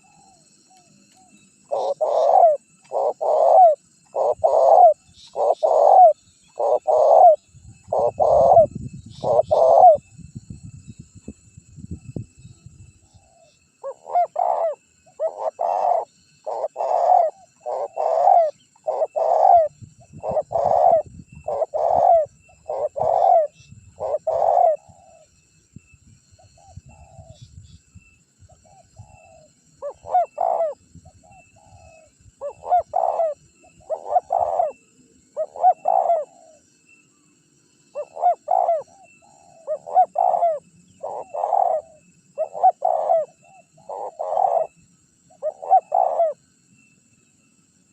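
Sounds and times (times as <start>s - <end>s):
dove cooing: 0.0s - 10.1s, 13.1s - 25.3s, 28.6s - 36.6s, 37.9s - 46.4s.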